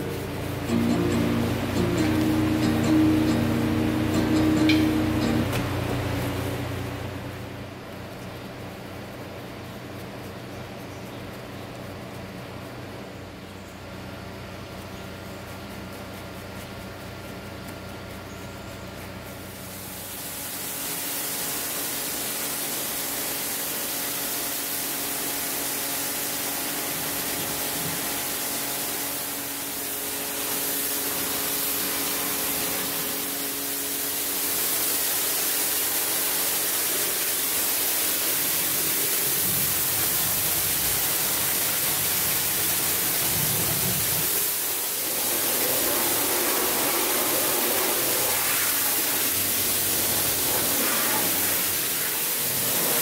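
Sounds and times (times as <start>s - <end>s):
pressure washer spraying water: 0.0s - 10.1s, 18.9s - 53.0s.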